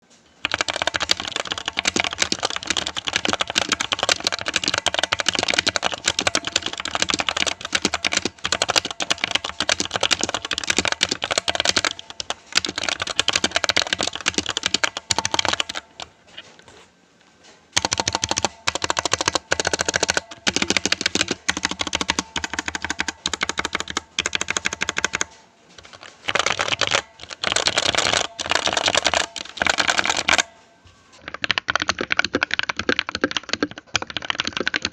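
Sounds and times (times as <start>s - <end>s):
mechanical keyboard typing: 0.4s - 16.1s, 17.8s - 30.5s, 31.2s - 34.9s.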